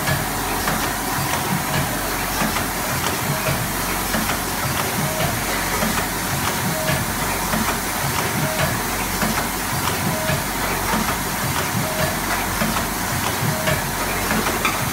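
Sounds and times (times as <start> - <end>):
packing machines hissing and clattering: 0.0 - 14.9.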